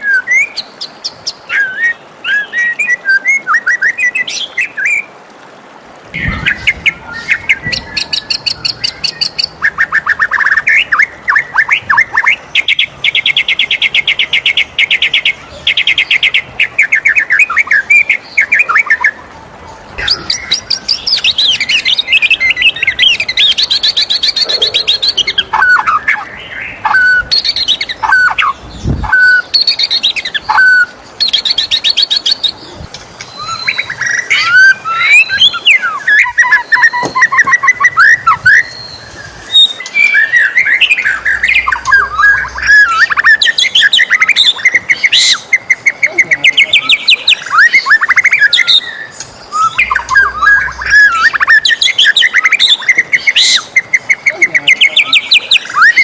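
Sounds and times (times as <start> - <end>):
bird singing trills and whistles: 0.0 - 5.1, 6.1 - 19.2, 20.0 - 56.0.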